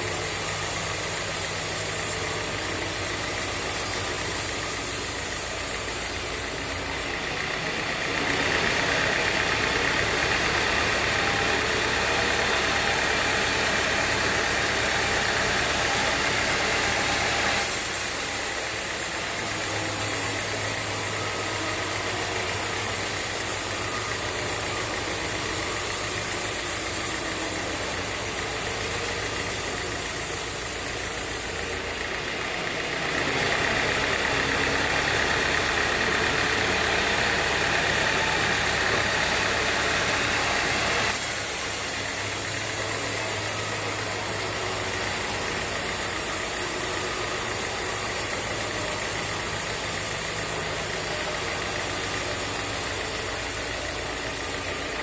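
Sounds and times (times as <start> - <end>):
band saw running: 0.0 - 55.0
saw blade cutting log: 0.0 - 55.0.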